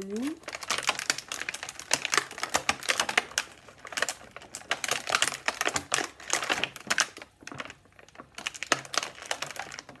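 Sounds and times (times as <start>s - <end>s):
hard plastic clicking and crackling: 0.0s - 10.0s.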